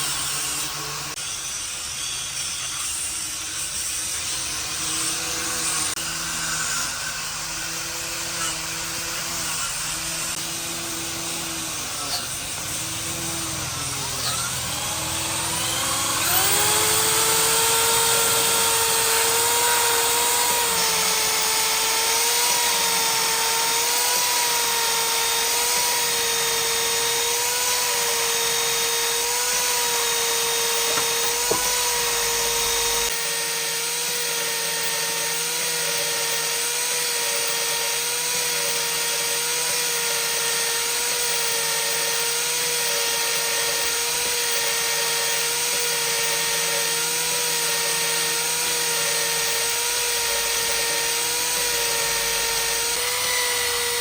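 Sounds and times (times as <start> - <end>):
power tool motor whining: 0.0 - 54.0.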